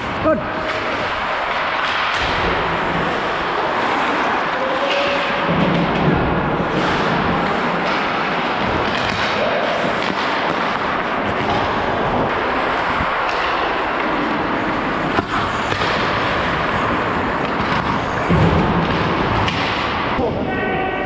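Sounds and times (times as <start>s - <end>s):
skates scraping on ice: 0.0s - 20.3s
stick and puck clacks: 0.6s - 20.3s.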